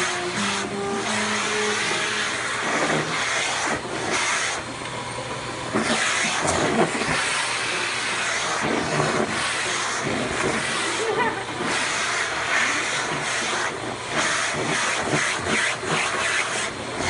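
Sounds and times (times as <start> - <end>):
vacuum cleaner suction hiss: 0.0 - 17.0.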